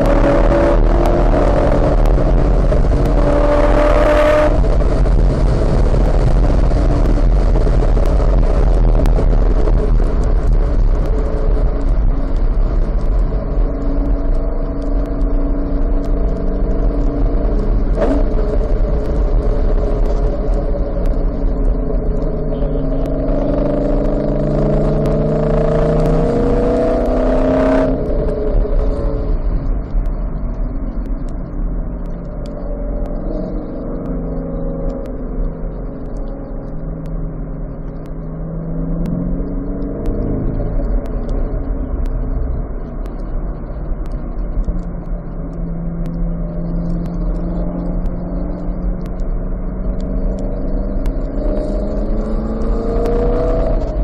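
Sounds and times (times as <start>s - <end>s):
car engine at low revs: 0.0s - 54.0s.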